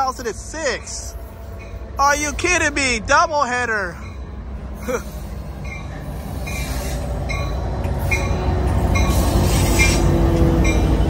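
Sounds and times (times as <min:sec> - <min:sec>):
diesel locomotive rumble: 0:00.0 - 0:11.0
locomotive bell ringing: 0:00.0 - 0:11.0.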